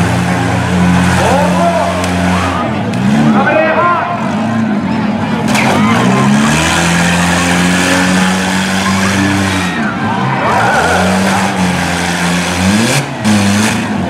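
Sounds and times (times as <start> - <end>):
car engines revving high: 0.0 - 14.0.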